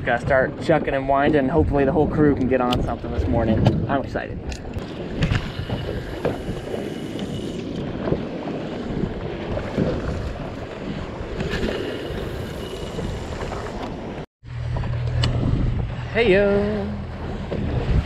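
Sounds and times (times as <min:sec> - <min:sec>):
water slapping boat hull: 0:00.0 - 0:18.0
wind buffeting microphone: 0:00.0 - 0:18.0.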